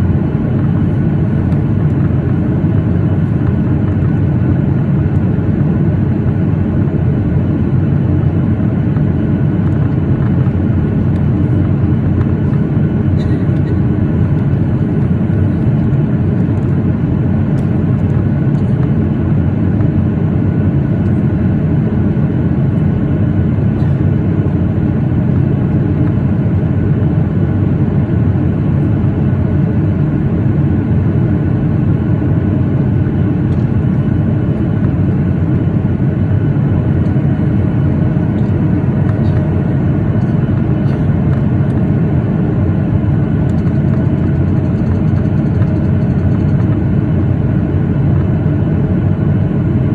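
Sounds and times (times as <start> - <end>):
airplane cabin noise in flight: 0.0 - 49.9
faint steady engine tones: 0.0 - 49.9.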